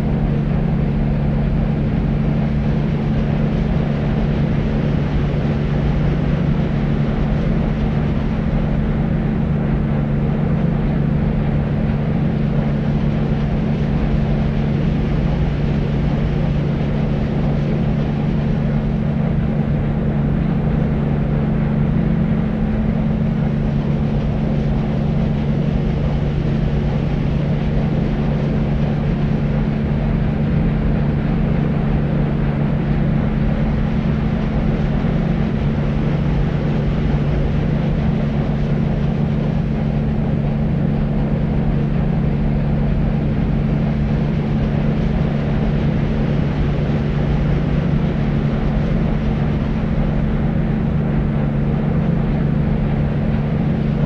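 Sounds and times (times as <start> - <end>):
deep white noise: 0.0 - 54.0.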